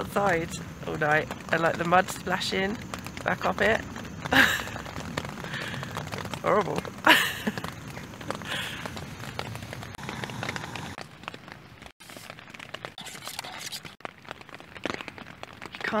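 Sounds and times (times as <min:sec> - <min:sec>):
rain pattering on a tent: 0:00.0 - 0:16.0.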